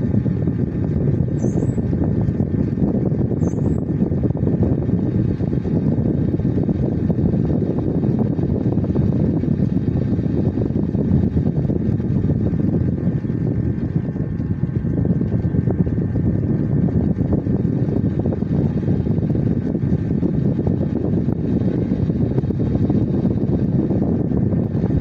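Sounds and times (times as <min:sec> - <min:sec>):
steady low rumbling: 0:00.0 - 0:25.0.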